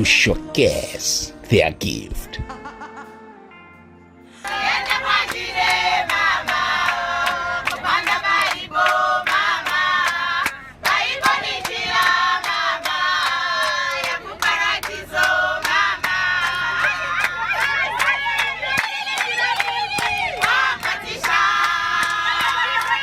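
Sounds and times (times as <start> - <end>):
rhythmic handclaps: 4.4 - 23.0
women's choir singing: 4.4 - 23.0.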